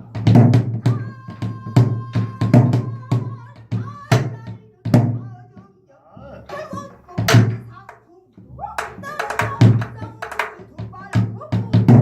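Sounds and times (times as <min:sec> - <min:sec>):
person singing: 0:00.8 - 0:12.0.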